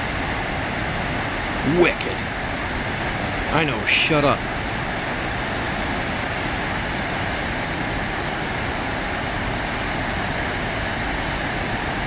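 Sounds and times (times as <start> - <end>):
large waterfall rushing: 1.4 - 12.0.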